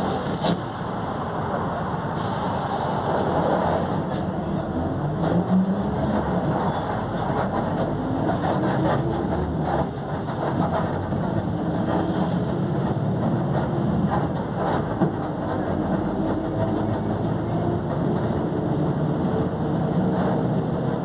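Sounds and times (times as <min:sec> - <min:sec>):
bus differential growling: 0:00.0 - 0:21.0
bus drivetrain noise: 0:00.0 - 0:21.0.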